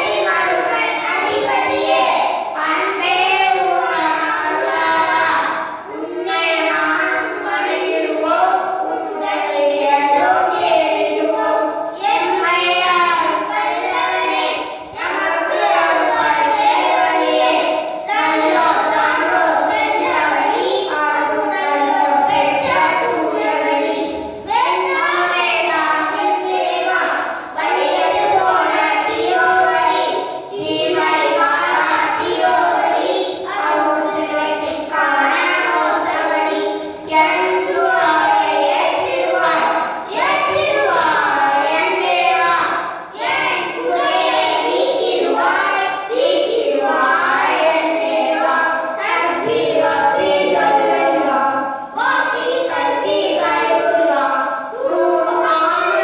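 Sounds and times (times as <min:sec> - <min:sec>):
boys singing together: 0:00.0 - 0:56.0.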